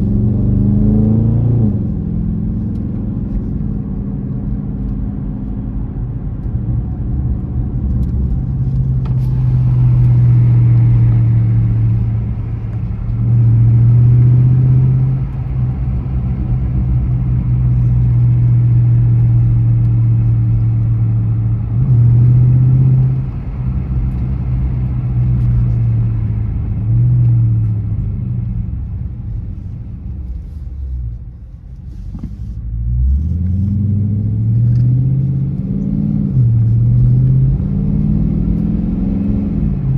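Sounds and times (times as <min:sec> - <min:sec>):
car engine revving: 0:00.0 - 0:05.2, 0:07.1 - 0:30.4, 0:32.4 - 0:39.9.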